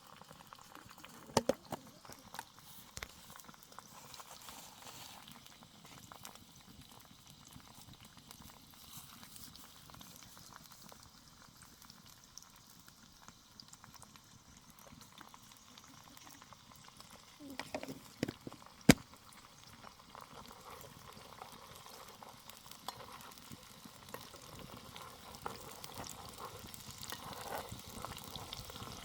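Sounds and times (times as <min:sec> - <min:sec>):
food bubbling and crackling: 0:00.0 - 0:29.0.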